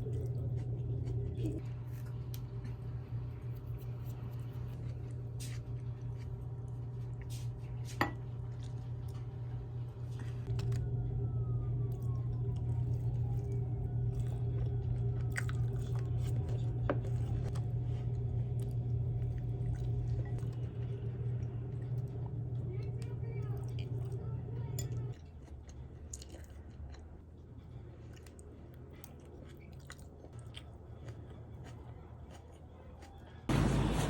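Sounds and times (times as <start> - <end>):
chewing with crunches: 0.0 - 34.0
steady low hum: 0.0 - 34.0.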